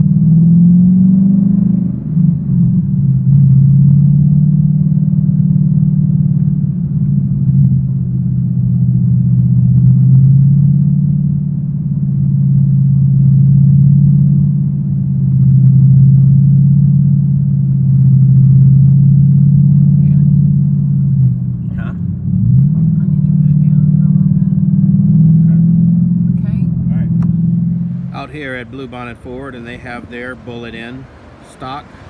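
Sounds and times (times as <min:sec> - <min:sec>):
car engine droning: 0:00.0 - 0:32.0
road rumble: 0:00.0 - 0:32.0.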